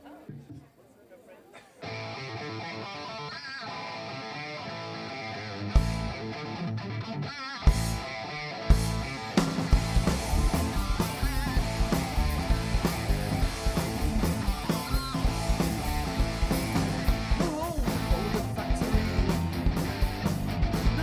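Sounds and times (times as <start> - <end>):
heavy metal band playing: 1.8 - 21.0.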